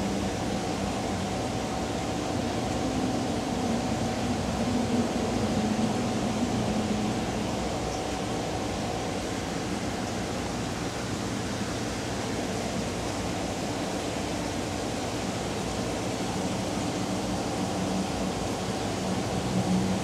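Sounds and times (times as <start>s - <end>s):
mechanical hum with hiss: 0.0s - 20.0s.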